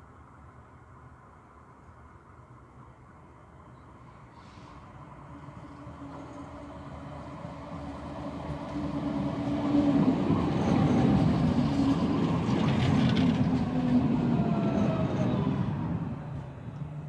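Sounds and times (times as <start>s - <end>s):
wheel noise on rails: 0.0s - 17.0s
tram motor hum: 2.8s - 17.0s.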